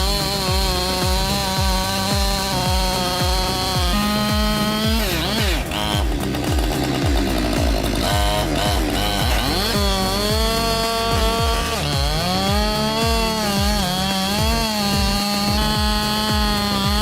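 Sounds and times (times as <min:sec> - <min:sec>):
music with steady beat: 0:00.0 - 0:17.0
two-stroke chainsaw at high revs: 0:00.0 - 0:17.0.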